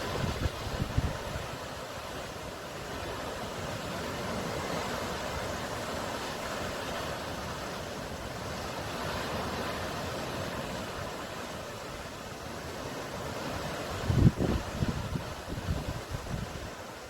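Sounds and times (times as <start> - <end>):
sea surf washing: 0.0 - 17.0.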